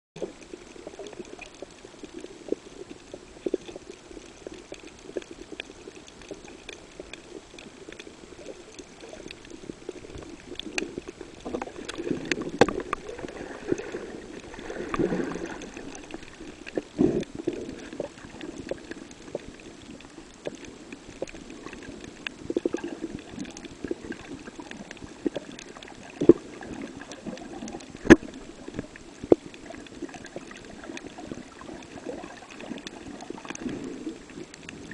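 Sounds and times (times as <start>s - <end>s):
small clicks and crackles: 0.2s - 34.9s
underwater rush of water: 0.2s - 34.9s.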